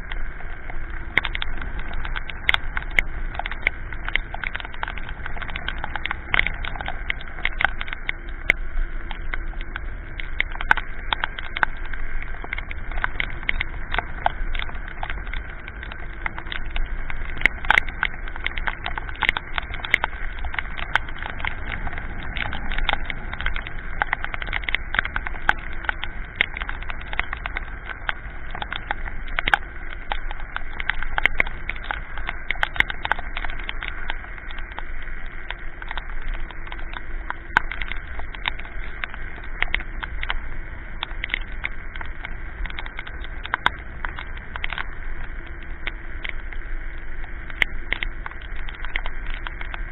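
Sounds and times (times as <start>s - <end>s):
raindrops tapping on camera: 0.0s - 49.9s
scooter wind and road rumble: 0.0s - 49.9s.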